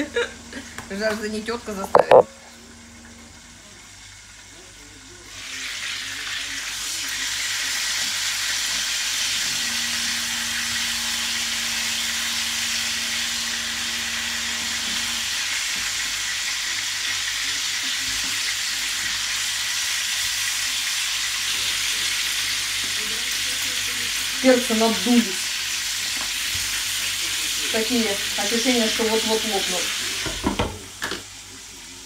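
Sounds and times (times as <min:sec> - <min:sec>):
spatula turning peppers: 0:00.0 - 0:03.9, 0:05.3 - 0:32.0
peppers sizzling in a frying pan: 0:00.0 - 0:32.0.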